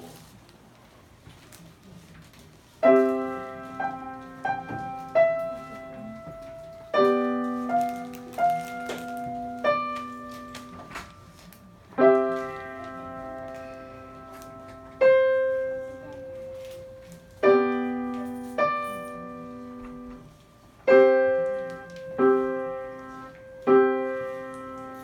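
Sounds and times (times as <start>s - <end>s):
grand piano chords and notes: 2.8s - 25.0s.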